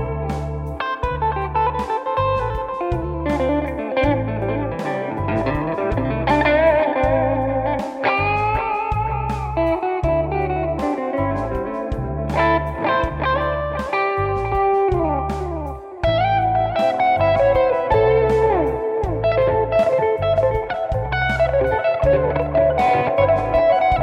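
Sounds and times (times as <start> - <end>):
backing track with repeating bass: 0.0 - 24.0
electric guitar with string bends: 0.0 - 24.0.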